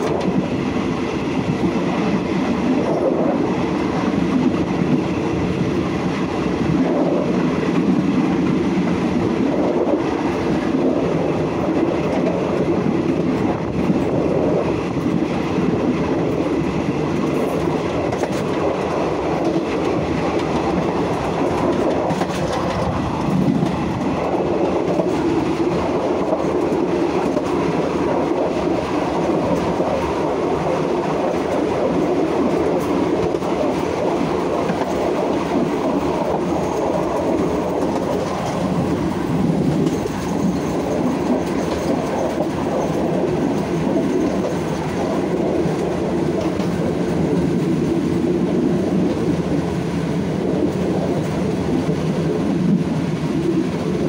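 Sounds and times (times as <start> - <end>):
train wheels rumbling on rail: 0.0 - 54.0
wheels clacking over rail joints: 6.0 - 49.7.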